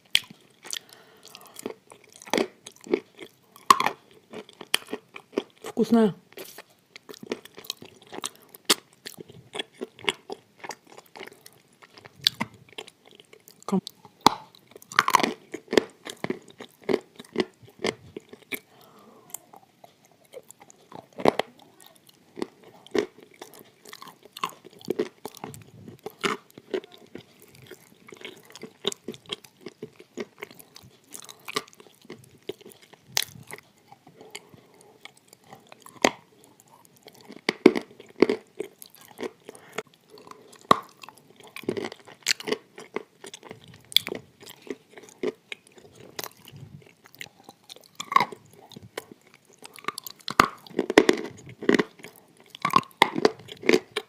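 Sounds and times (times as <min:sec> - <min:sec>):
chewing and crunching clay: 0:00.0 - 0:54.0.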